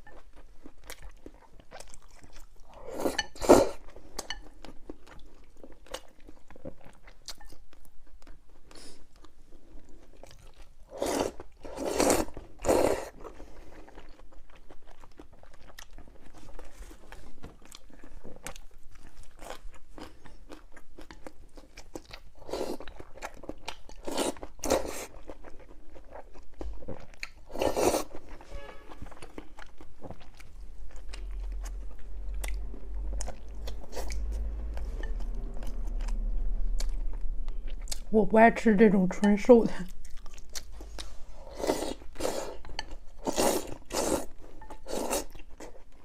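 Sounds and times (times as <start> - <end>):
person chewing crisp food: 0.0 - 38.1, 39.9 - 46.0.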